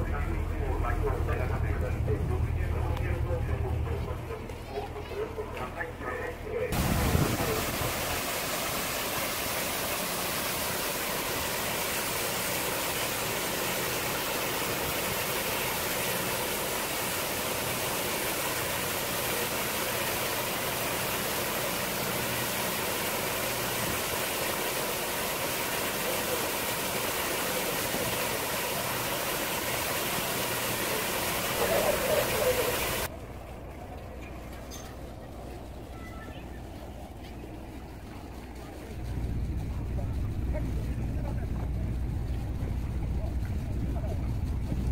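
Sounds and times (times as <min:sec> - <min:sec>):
low engine hum: 0:00.0 - 0:44.9
water jets splashing onto lake: 0:00.0 - 0:44.9.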